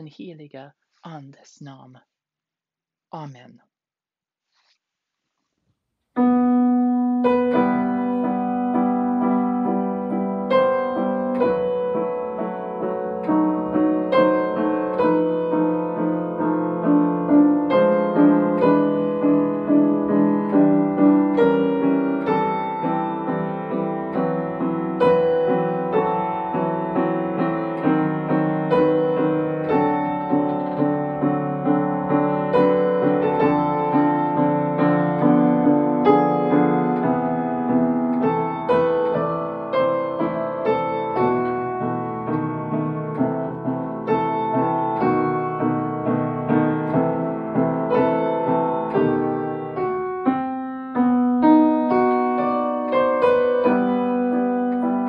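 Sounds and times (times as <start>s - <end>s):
upright piano playing chords: 6.1s - 55.0s.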